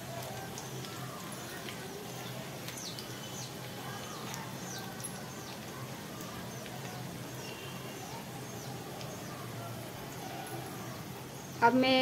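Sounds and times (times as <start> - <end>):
birds chirping: 0.0 - 12.0
spices sizzling in hot oil: 0.0 - 12.0.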